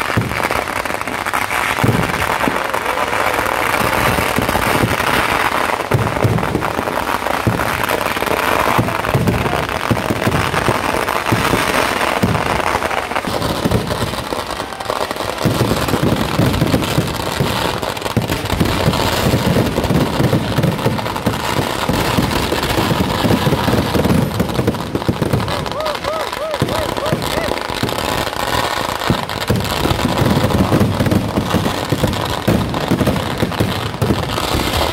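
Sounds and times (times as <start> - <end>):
firecrackers crackling: 0.0 - 34.9
heavy firework booms: 0.0 - 34.9.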